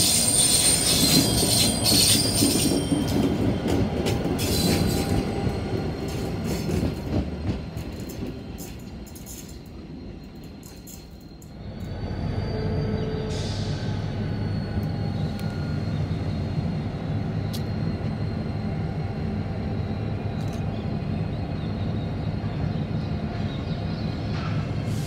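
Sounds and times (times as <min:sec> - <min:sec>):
diesel locomotive engines rumbling: 0:00.0 - 0:25.0.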